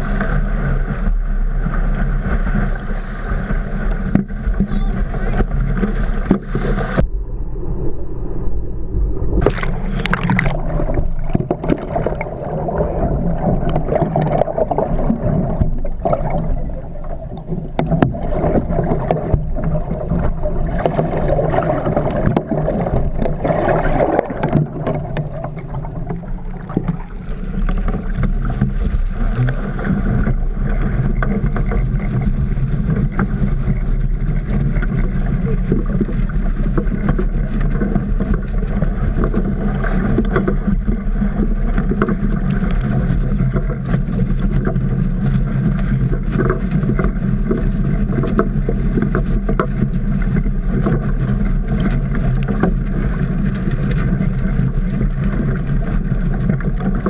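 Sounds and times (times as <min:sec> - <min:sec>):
water sloshing against boat hull: 0:00.0 - 0:07.1, 0:09.4 - 0:57.0
wind buffeting microphone: 0:00.0 - 0:55.5.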